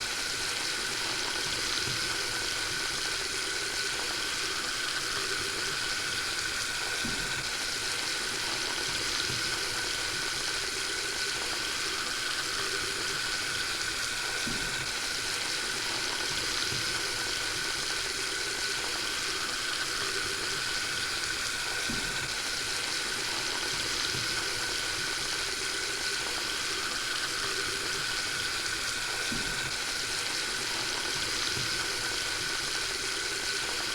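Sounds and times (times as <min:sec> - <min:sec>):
water running from faucet into sink: 0:00.0 - 0:33.9.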